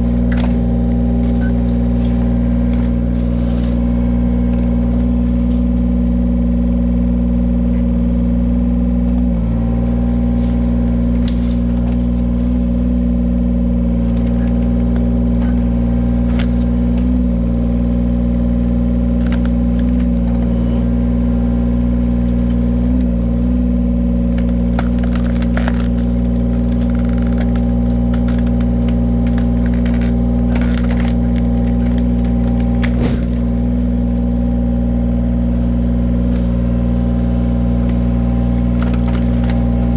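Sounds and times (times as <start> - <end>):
logs cracking and splintering: 0.0 - 39.9
wood-cutting machine engine running: 0.0 - 39.9.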